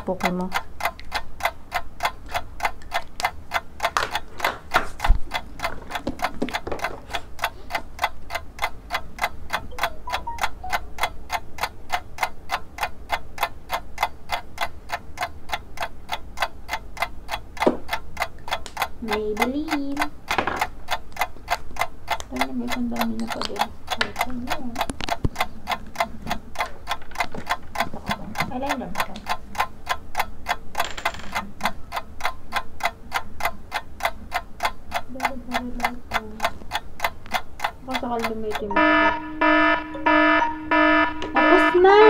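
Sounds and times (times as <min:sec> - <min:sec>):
rapid clock ticking: 0:00.0 - 0:42.0.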